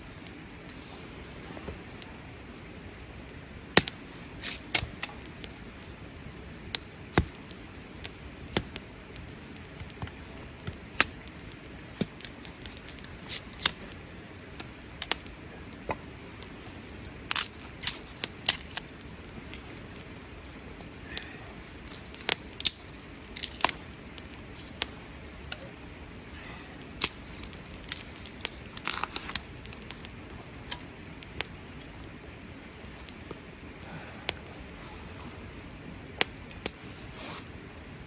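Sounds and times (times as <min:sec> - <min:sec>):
campfire crackling and popping: 0:00.0 - 0:38.0
low steady hiss: 0:00.0 - 0:38.0.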